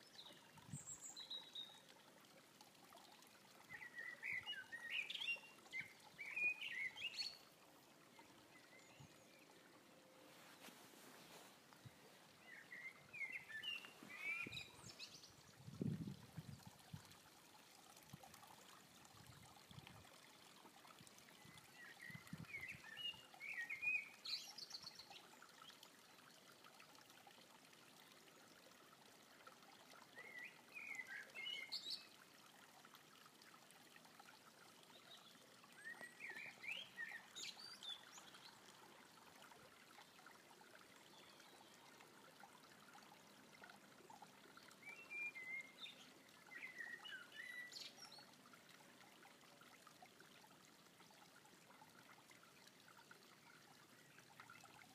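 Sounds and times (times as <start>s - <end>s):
creek trickling: 0.0s - 54.9s.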